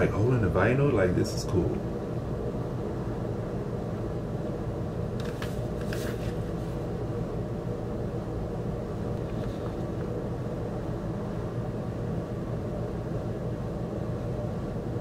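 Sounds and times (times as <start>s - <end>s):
low mechanical room hum: 0.0s - 15.0s.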